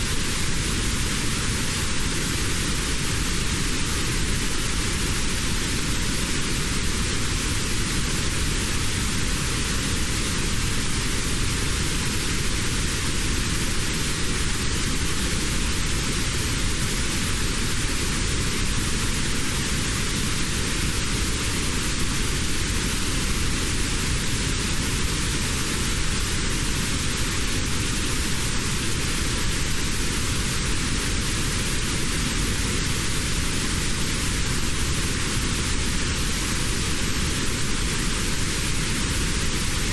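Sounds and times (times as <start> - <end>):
notched noise hiss: 0.0 - 39.9.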